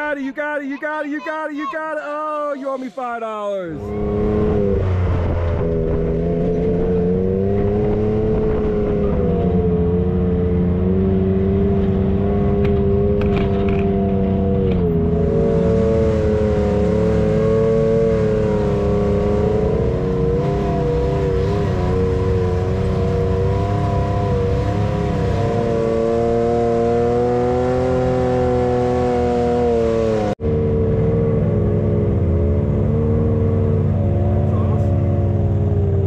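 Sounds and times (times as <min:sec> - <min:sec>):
utility vehicle engine running: 0:03.8 - 0:36.0.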